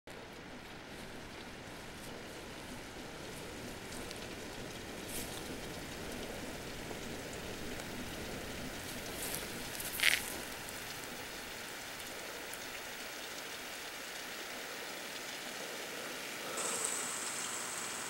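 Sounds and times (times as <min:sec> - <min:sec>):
steady hiss: 0:00.3 - 0:18.0.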